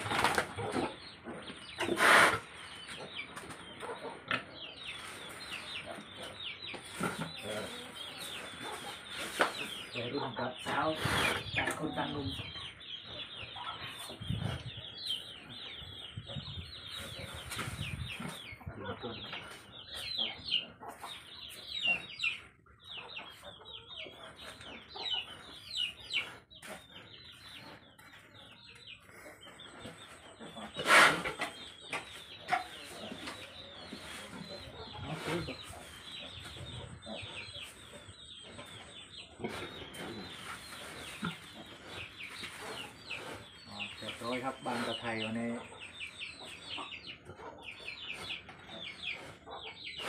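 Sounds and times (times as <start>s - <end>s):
birds chirping: 0.0s - 50.0s.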